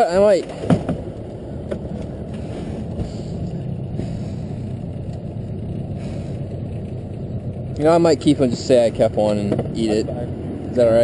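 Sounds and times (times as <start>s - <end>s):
outboard motor rumbling: 0.1s - 11.0s.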